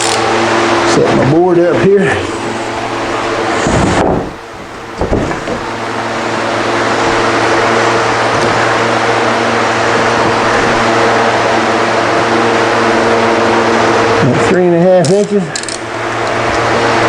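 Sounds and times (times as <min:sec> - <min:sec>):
machine hum with rushing air: 0:00.0 - 0:17.0.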